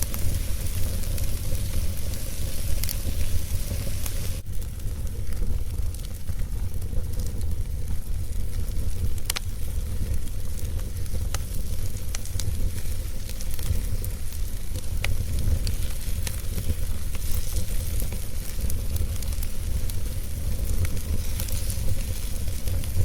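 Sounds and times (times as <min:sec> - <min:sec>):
low rumble of fire: 0:00.0 - 0:23.0
wood fire crackling and popping: 0:00.0 - 0:23.0.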